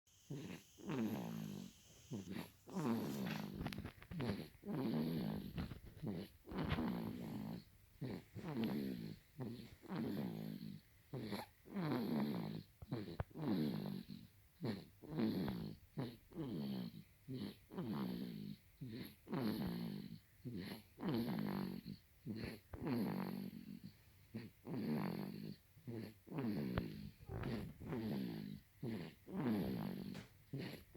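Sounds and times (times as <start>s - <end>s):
baby snoring: 0.2s - 30.9s.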